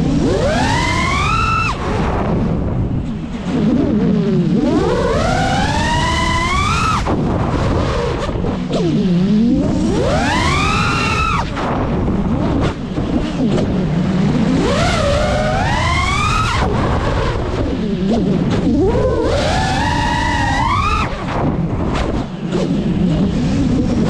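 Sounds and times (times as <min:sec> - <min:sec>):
drone motors whining: 0:00.0 - 0:24.0
low rumble: 0:00.0 - 0:24.0.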